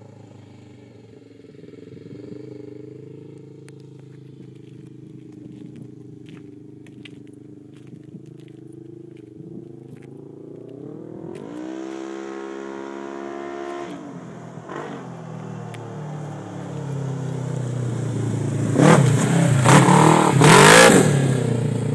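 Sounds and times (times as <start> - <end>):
off-road vehicle engine revving: 0.0 - 21.9.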